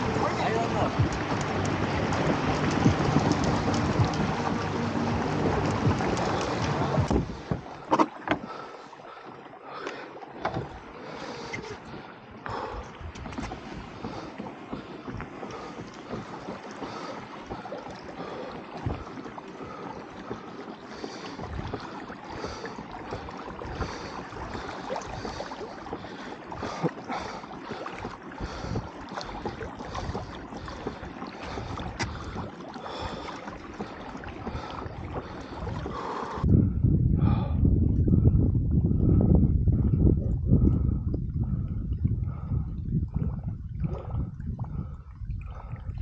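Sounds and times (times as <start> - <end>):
wind buffeting microphone: 0.0 - 8.7, 10.5 - 46.0
water rushing along kayak hull: 0.0 - 46.0
water slapping hull: 0.0 - 46.0.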